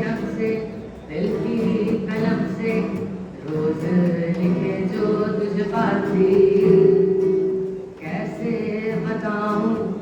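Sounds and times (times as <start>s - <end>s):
young voices singing in unison: 0.0s - 10.0s.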